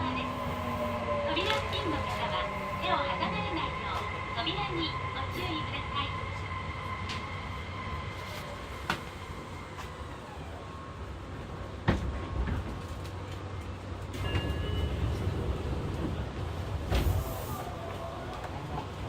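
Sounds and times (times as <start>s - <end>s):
subway car rumble: 0.0s - 19.0s.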